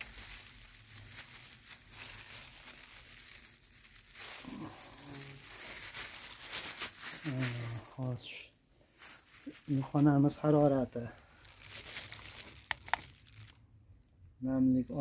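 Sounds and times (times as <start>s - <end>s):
gloved hand rustling in compost: 0.0s - 7.9s, 8.9s - 13.3s.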